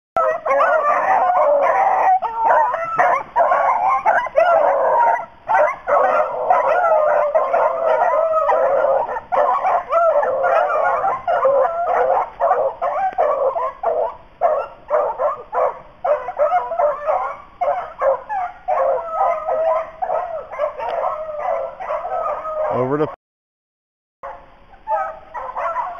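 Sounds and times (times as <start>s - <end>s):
hounds baying: 0.2s - 23.2s, 24.2s - 25.9s.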